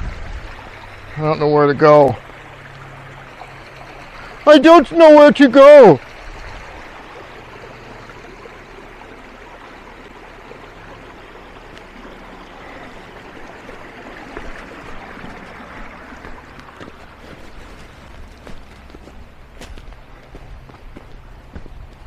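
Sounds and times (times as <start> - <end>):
creek water running over rocks: 0.0 - 22.0.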